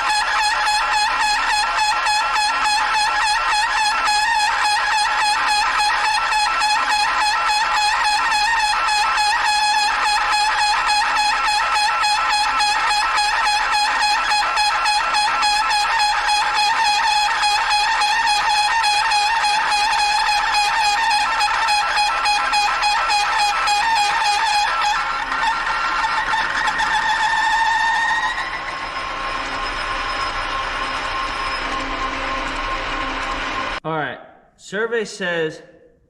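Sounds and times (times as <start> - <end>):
lathe tool bit chattering squeal: 0.0 - 33.8.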